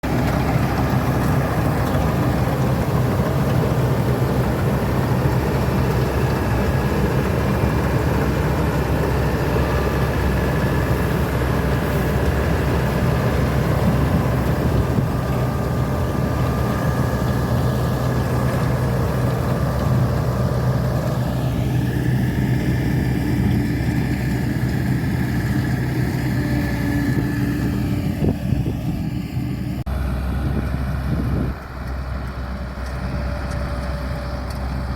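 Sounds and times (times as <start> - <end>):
combine harvester engine hum: 0.0 - 34.9.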